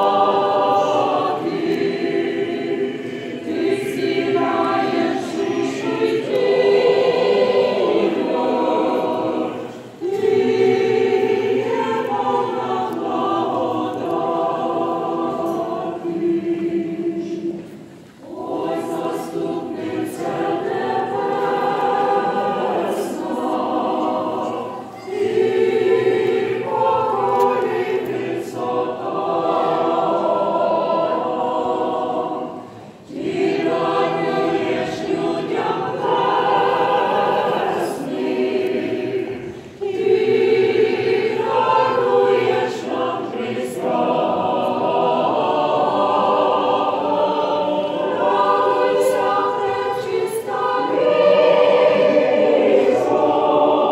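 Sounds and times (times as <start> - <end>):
church choir chanting: 0.0 - 53.9.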